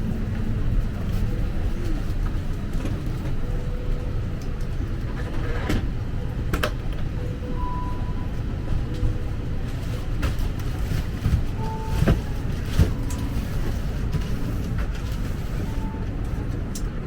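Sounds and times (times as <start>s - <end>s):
low rumble of airliner machinery: 0.0s - 17.0s.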